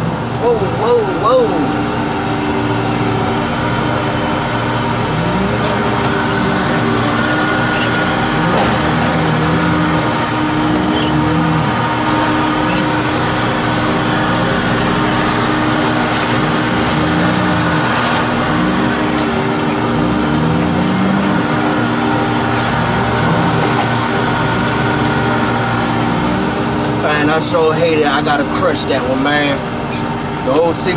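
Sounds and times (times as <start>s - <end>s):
heavy equipment engine drone: 0.0s - 30.9s.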